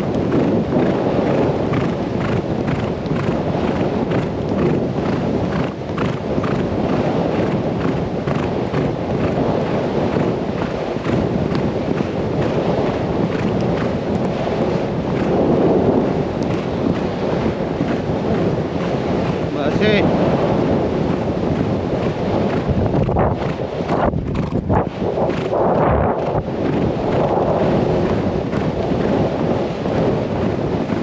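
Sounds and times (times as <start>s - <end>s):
horse hoofbeats galloping: 0.0s - 31.0s
wind on microphone: 0.0s - 31.0s.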